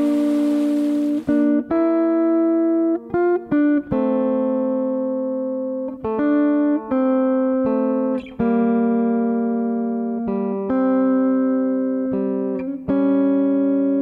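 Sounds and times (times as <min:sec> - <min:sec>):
plucked string chords: 0:00.0 - 0:14.0.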